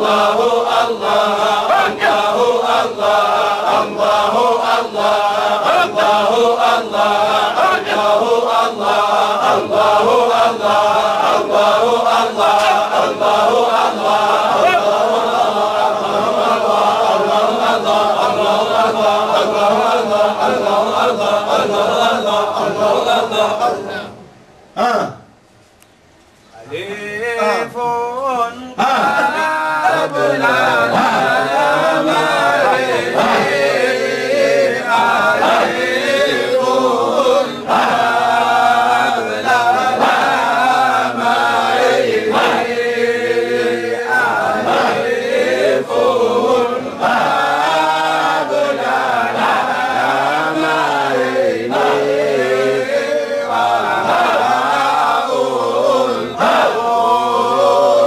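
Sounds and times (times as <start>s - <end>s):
men chanting together: 0.0s - 24.2s, 26.7s - 58.0s.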